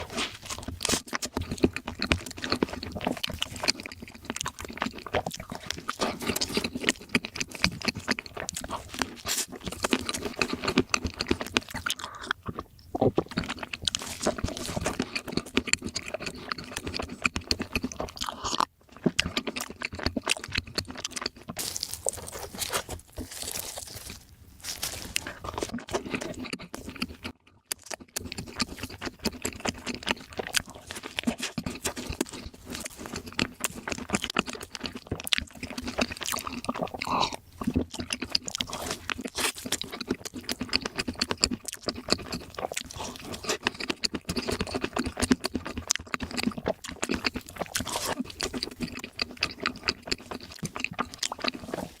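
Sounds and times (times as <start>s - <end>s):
food being chewed and crunched: 0.0s - 52.0s.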